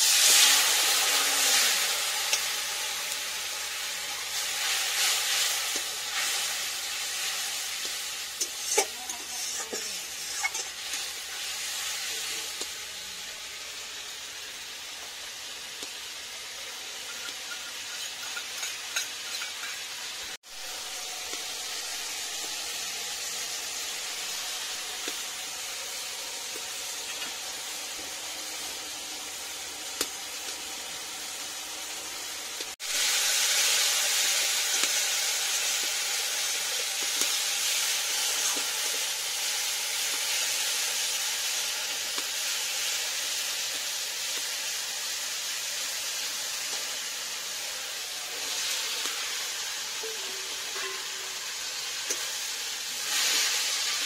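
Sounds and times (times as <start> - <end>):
water sizzling in hot oil: 0.0 - 54.0.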